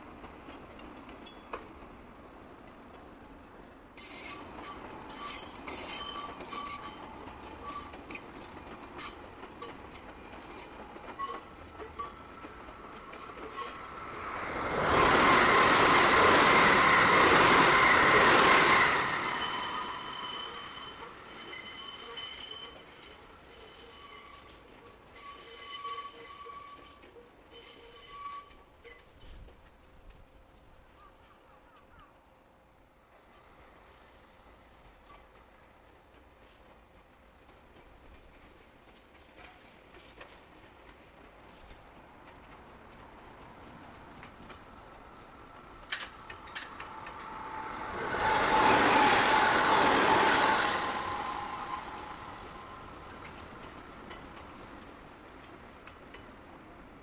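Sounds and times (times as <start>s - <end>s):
electric train passing: 0.0s - 31.0s, 32.3s - 57.0s
steel wheels squealing on rails: 3.3s - 32.0s, 33.2s - 40.4s, 41.5s - 57.0s.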